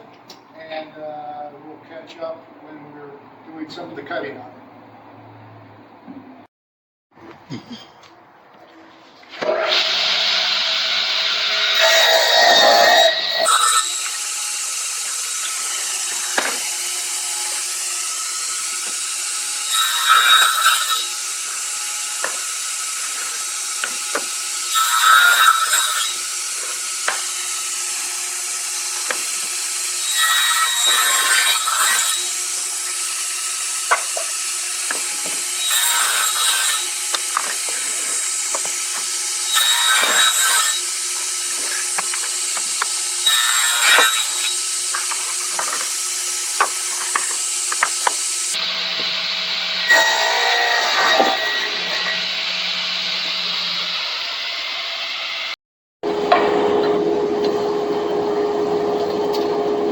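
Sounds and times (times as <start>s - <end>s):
power saw cutting wood: 9.3s - 57.6s.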